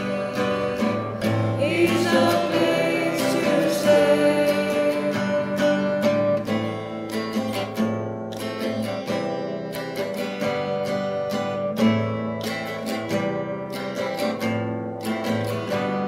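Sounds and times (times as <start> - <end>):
guitar strumming: 0.0 - 16.0.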